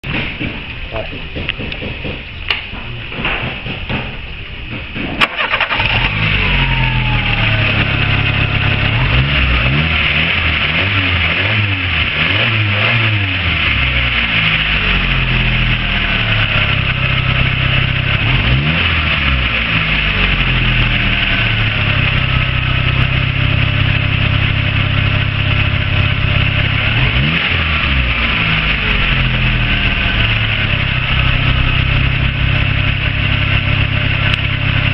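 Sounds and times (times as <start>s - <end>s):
car engine starting and revving: 5.2s - 34.9s.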